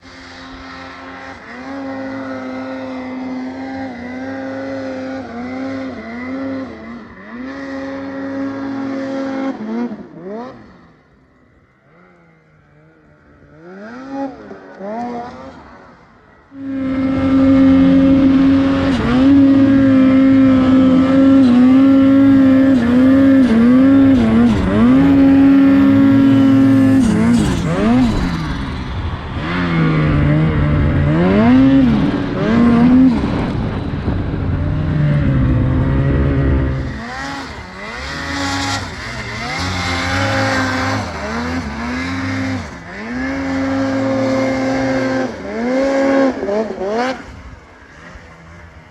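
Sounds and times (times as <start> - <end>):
snowmobile engine revving: 0.0 - 48.9.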